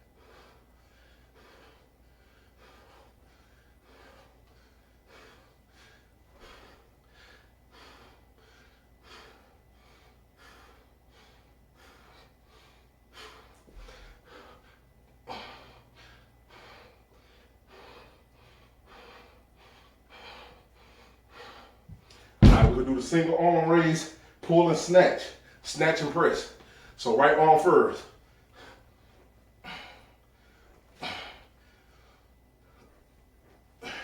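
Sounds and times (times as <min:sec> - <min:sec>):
man breathing hard: 0:00.0 - 0:23.6, 0:25.0 - 0:33.0, 0:33.8 - 0:34.0.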